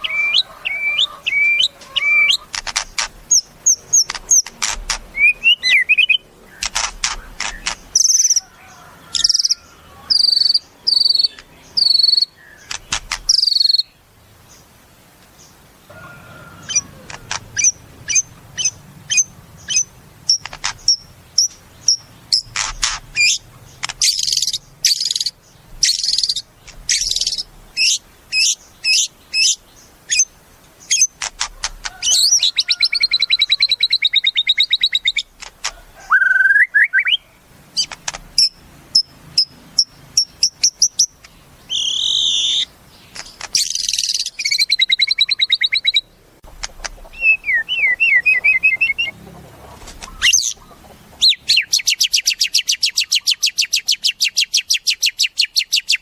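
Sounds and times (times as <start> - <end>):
songbird singing varied song: 0.0 - 49.4, 50.0 - 56.0.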